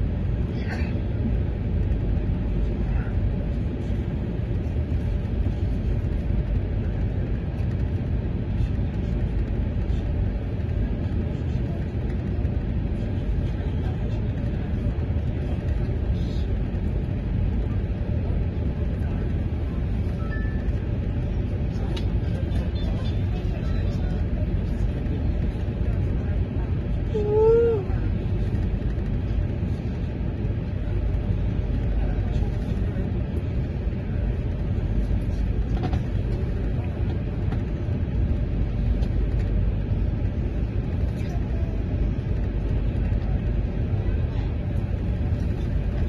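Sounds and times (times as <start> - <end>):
vehicle cabin rumble: 0.0 - 46.0.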